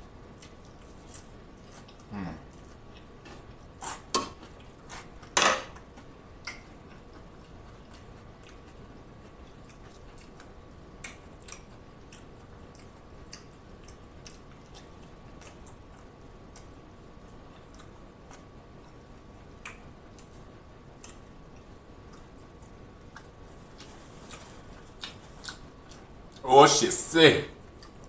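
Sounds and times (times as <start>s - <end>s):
mouth clicks and smacks chewing: 0.3s - 26.4s, 27.7s - 28.0s.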